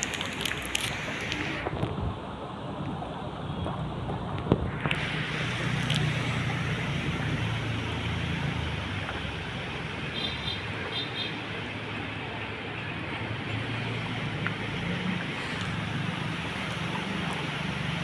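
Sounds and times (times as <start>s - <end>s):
outdoor noise: 0.0s - 18.0s.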